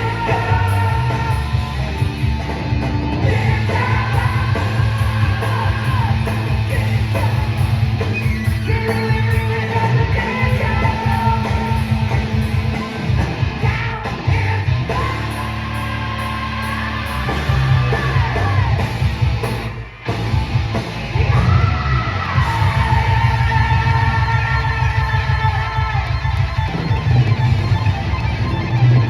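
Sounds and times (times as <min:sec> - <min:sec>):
heavy metal band playing: 0:00.0 - 0:29.0.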